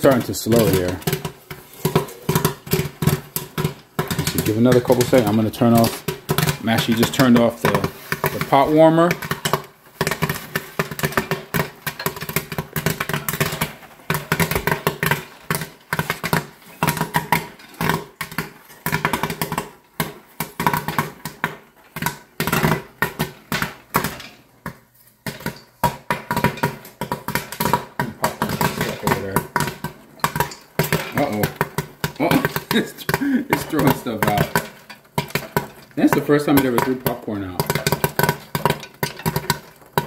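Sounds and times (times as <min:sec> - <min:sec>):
popcorn popping: 0:00.0 - 0:40.0.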